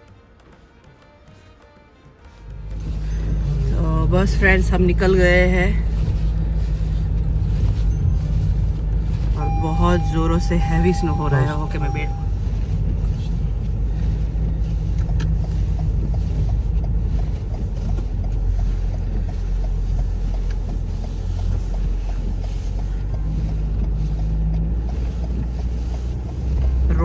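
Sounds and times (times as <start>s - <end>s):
light regular ticking: 2.3s - 27.0s
car cabin engine rumble: 2.5s - 27.0s.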